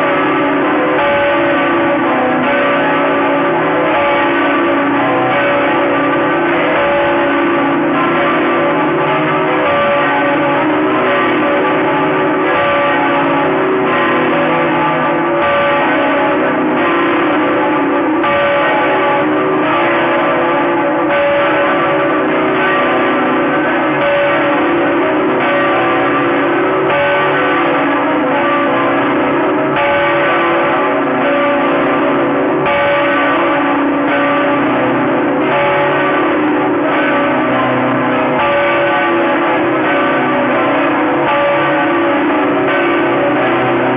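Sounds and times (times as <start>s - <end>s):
church bells pealing: 0.0s - 43.9s.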